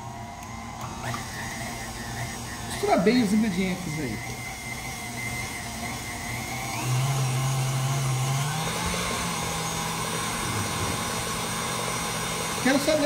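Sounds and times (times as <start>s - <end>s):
stand mixer motor hum: 0.0s - 13.0s.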